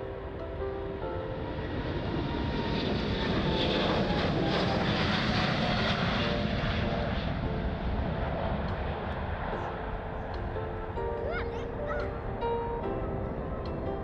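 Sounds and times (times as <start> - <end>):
jet airliner taking off: 0.0 - 14.0.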